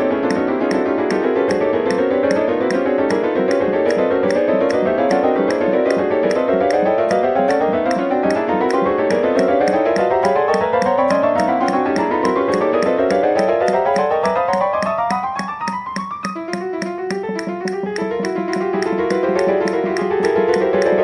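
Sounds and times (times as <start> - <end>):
piano-like chromatic runs: 0.0 - 21.0
high ticking percussion pulse: 0.2 - 21.0.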